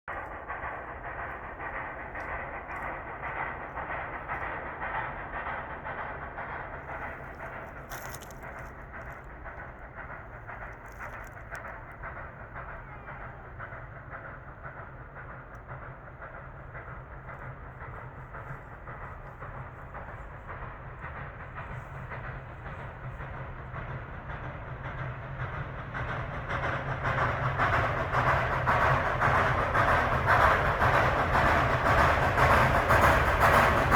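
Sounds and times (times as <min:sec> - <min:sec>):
rail clatter: 0:00.1 - 0:33.9
steam locomotive exhaust beats: 0:00.1 - 0:33.9.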